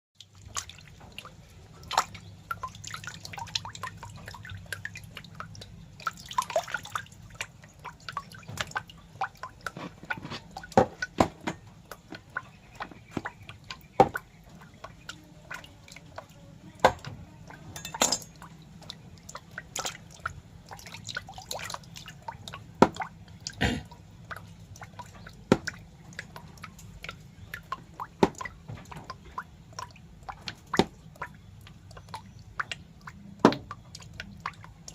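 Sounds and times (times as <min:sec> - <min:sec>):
wet drip-like clicks: 0:00.2 - 0:34.9.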